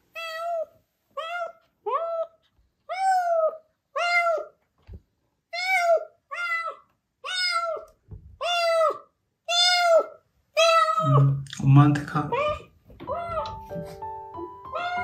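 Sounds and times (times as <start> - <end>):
kitten meowing: 0.1 - 4.6, 5.5 - 11.4, 12.3 - 13.8, 14.5 - 15.0.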